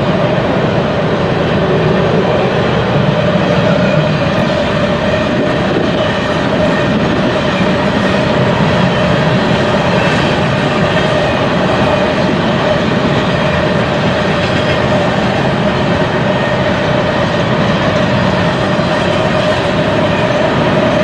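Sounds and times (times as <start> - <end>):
freight train wheels on rail: 0.0 - 21.0
steady whining tone: 0.0 - 21.0.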